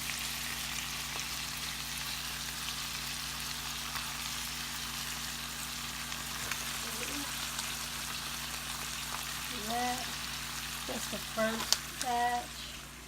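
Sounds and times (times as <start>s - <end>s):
beef sizzling in oil: 0.0s - 13.0s.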